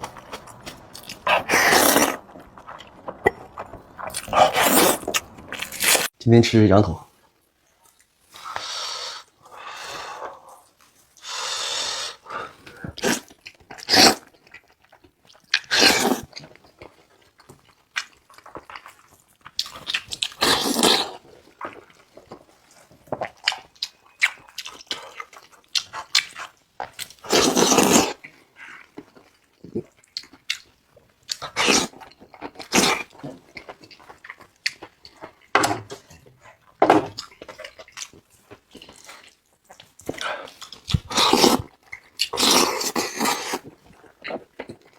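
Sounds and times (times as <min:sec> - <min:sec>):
person chewing meat: 0:00.0 - 0:06.1, 0:12.3 - 0:44.9.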